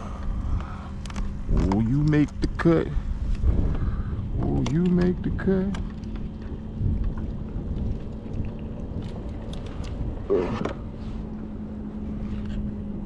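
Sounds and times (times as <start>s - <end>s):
motorboat engine humming: 0.0s - 13.0s
water noise: 0.0s - 13.0s
wind: 0.0s - 13.0s.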